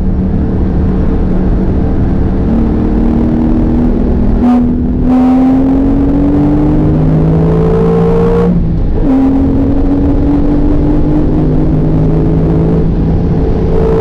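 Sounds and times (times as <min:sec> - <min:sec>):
car engine accelerating: 0:00.0 - 0:14.0
gear changes: 0:00.0 - 0:14.0.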